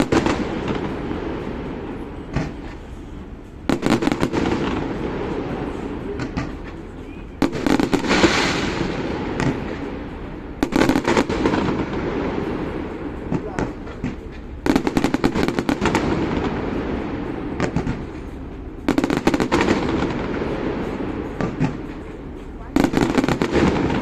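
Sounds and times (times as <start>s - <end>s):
firework shell bursts: 0.0s - 24.0s
fireworks crackling: 0.0s - 24.0s.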